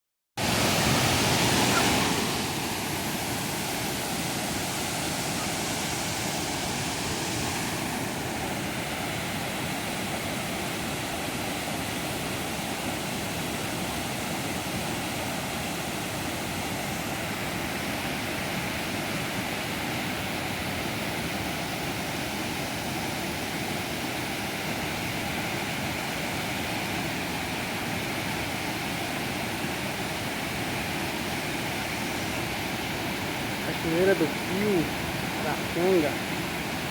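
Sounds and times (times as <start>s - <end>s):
waterfall rushing: 0.4s - 36.9s.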